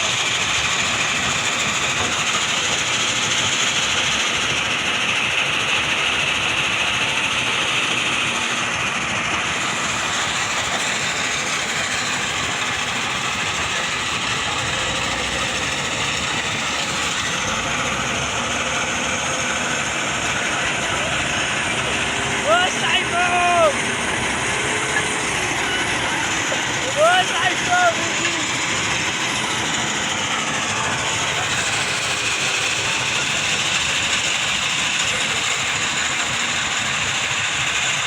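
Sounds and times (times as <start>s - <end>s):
diesel engine clattering: 0.0s - 38.0s.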